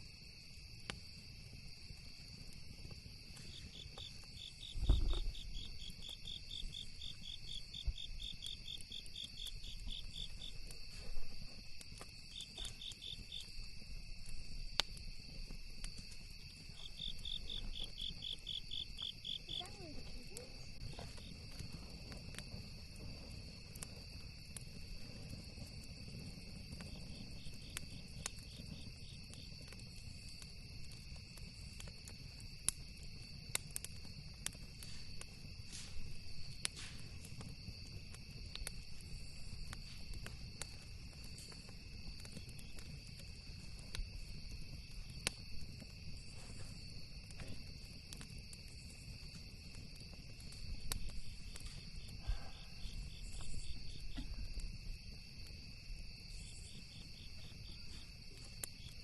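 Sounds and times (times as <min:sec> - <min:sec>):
campfire crackling and popping: 0:00.0 - 0:59.0
crickets chirring: 0:00.0 - 0:59.0.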